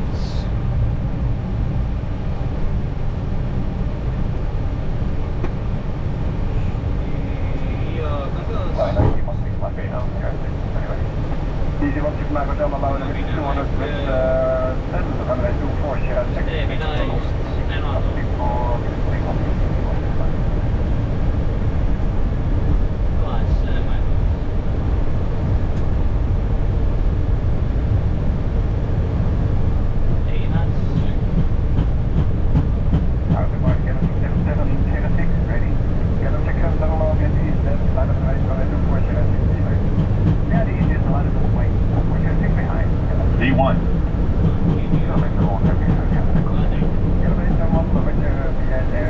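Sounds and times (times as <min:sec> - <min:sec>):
aircraft engine rumble: 0:00.0 - 0:49.0.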